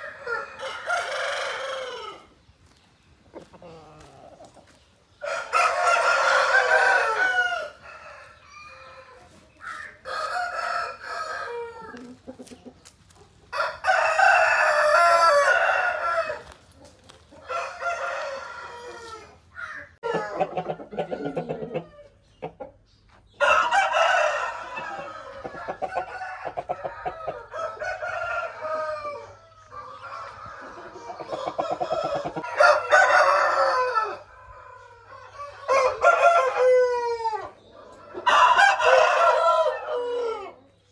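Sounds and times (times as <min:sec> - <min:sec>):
roosters crowing: 0:00.0 - 0:02.8, 0:03.4 - 0:12.4, 0:13.4 - 0:22.2, 0:23.4 - 0:40.8
chickens clucking: 0:00.0 - 0:40.9.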